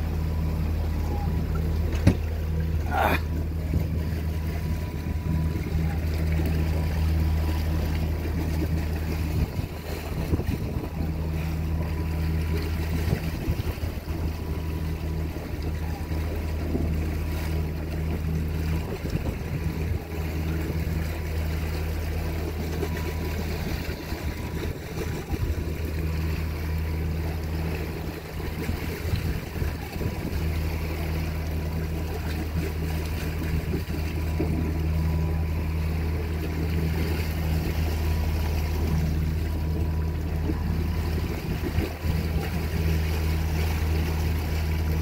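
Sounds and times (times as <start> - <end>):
boat engine droning: 0.0 - 45.0
rushing water: 0.0 - 45.0
wind: 0.0 - 45.0.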